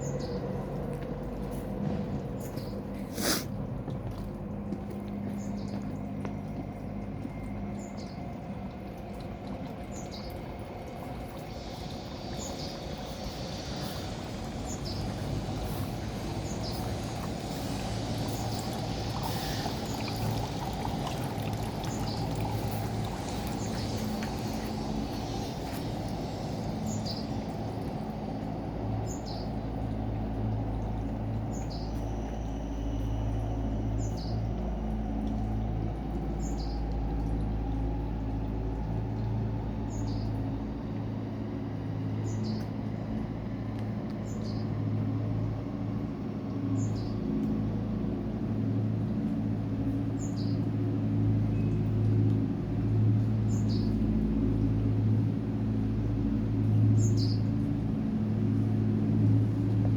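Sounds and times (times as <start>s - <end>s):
low hum of the city: 0.0s - 59.9s.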